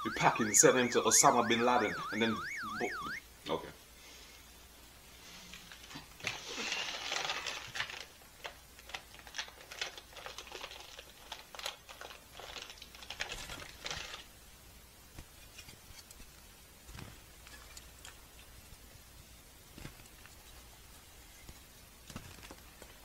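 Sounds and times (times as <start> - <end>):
crackling crinkling rustle: 4.1 - 23.0.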